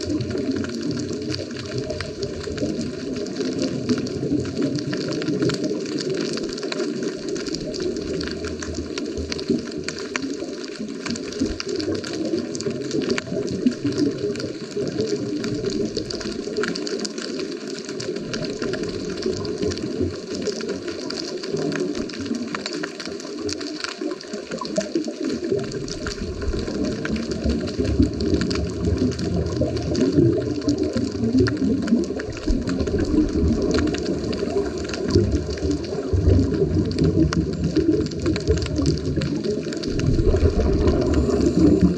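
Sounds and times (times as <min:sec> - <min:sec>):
fine crackling clicks: 0:00.0 - 0:41.9
muffled underwater rumble: 0:00.0 - 0:41.9.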